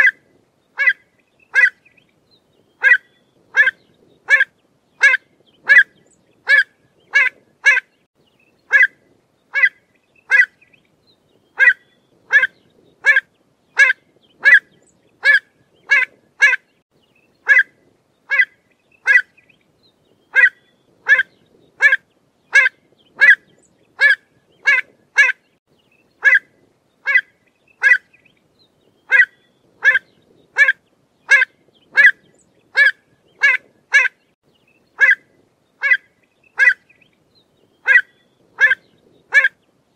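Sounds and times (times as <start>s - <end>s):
bird calling: 0.8s - 8.0s, 8.7s - 10.8s, 11.4s - 16.8s, 17.4s - 17.7s, 18.3s - 19.6s, 20.2s - 25.6s, 26.2s - 34.4s, 35.0s - 35.2s, 35.8s - 37.1s, 37.7s - 39.6s.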